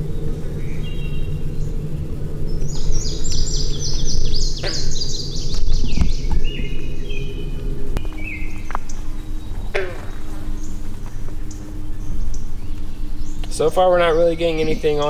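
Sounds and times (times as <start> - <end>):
low rumble: 0.0 - 15.0
songbird chirping: 0.0 - 15.0.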